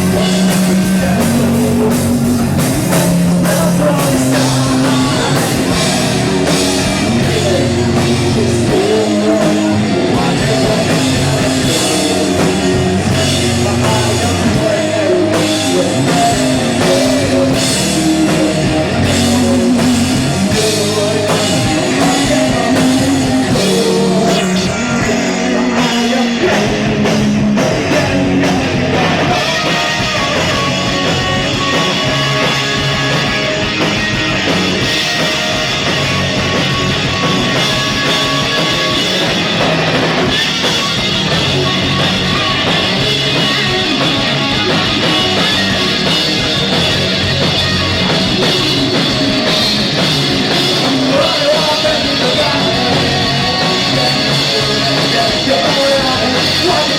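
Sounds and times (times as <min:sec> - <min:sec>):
drum kit: 0:00.0 - 0:56.9
live rock band playing: 0:00.0 - 0:56.9.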